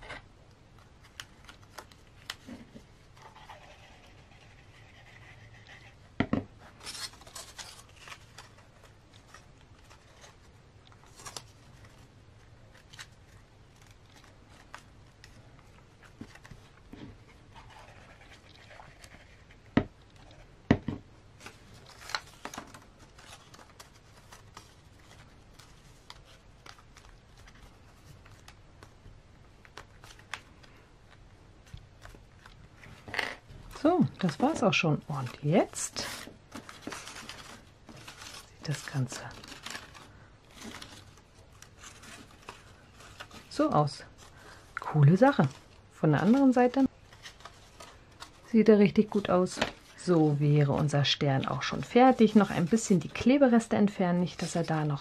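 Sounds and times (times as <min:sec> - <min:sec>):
paper rustling and crinkling: 0:00.8 - 0:05.5, 0:06.6 - 0:20.5, 0:21.4 - 0:55.0.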